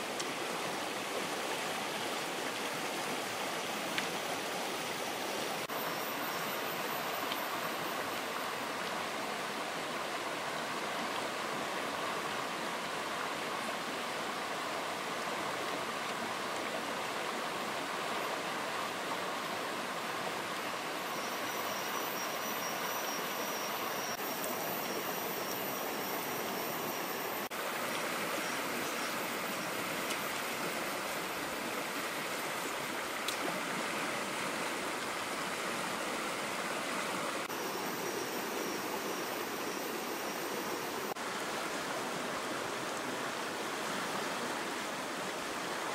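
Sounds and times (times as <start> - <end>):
stream rushing over stones: 0.0 - 45.9.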